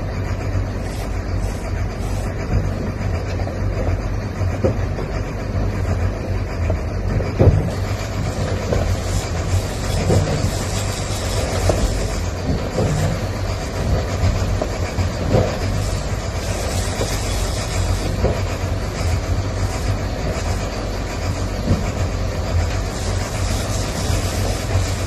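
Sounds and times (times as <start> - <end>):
boat engine droning: 0.0 - 25.0
wind and sea noise: 0.0 - 25.0.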